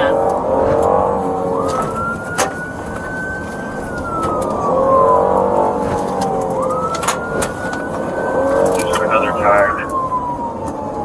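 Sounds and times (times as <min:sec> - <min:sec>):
car road and engine noise: 0:00.0 - 0:11.0
police siren wailing: 0:00.0 - 0:11.0.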